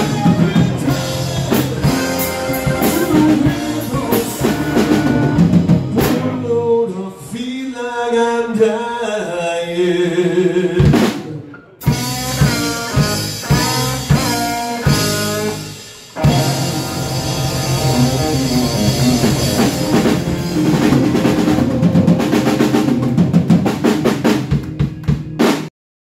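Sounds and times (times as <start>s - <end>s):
drum roll: 0.0s - 6.4s, 10.8s - 25.7s
blues rock band playing: 0.0s - 6.7s, 10.8s - 25.7s.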